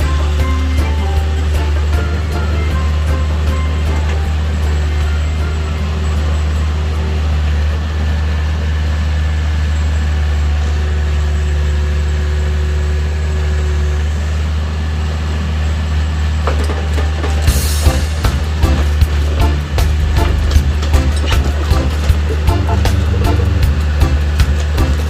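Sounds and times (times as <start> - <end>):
excavator diesel engine droning: 0.0 - 25.0.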